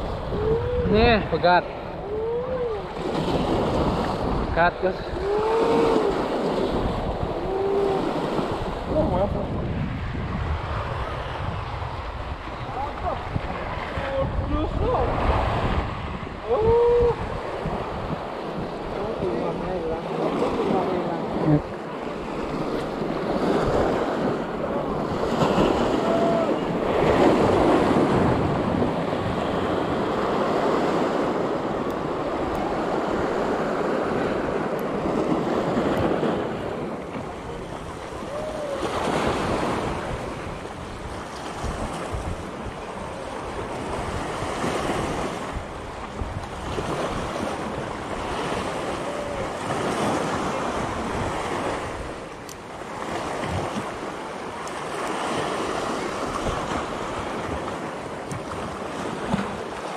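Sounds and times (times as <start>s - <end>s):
waves breaking over rocks: 0.0s - 59.9s
wind buffeting microphone: 0.0s - 59.9s.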